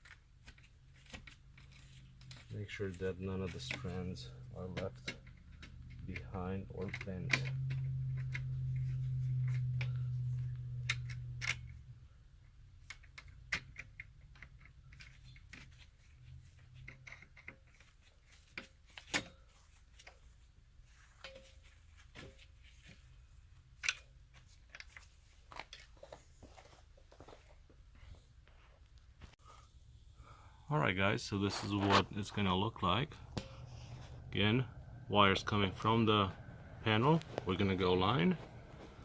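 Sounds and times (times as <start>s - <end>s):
low steady hum: 0.5s - 39.0s.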